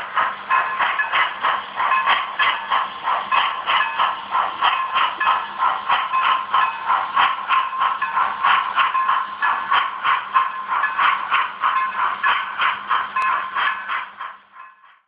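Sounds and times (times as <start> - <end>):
model steam locomotive exhaust chuffs: 0.0 - 15.0.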